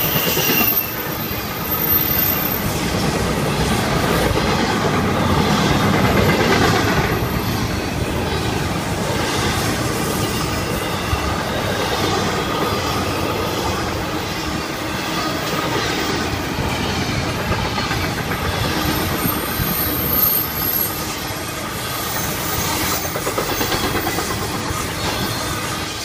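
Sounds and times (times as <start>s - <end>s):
high wheel squeal: 0.0s - 2.9s, 5.4s - 26.0s
freight wheels rumbling and clacking: 0.0s - 26.0s.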